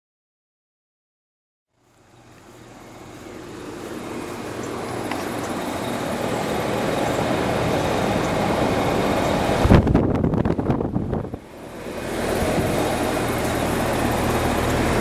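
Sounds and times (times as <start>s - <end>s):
compressor hum: 1.7s - 15.0s
fan whooshing: 1.8s - 15.0s.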